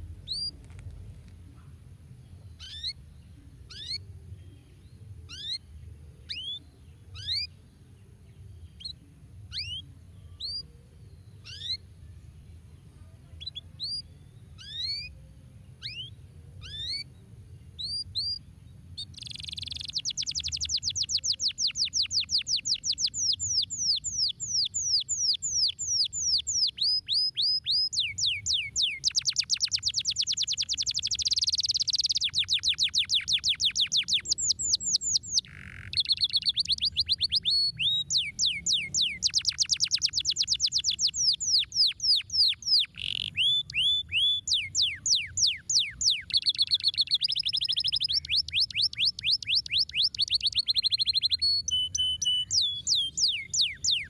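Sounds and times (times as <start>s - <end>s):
canary singing trills: 0.0s - 0.7s, 2.4s - 12.0s, 13.2s - 54.0s.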